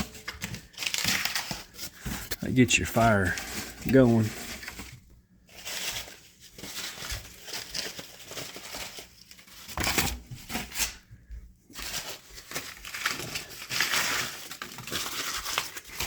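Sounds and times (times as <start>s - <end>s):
cardboard tearing and crumpling: 0.0s - 16.0s.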